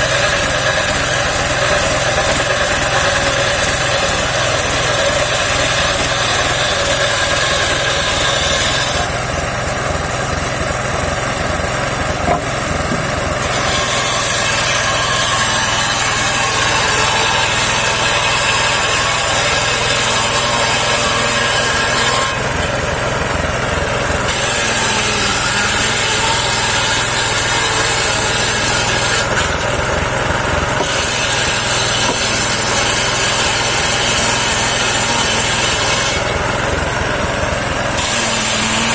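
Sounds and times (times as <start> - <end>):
circular sawmill cutting wood: 0.0 - 38.9.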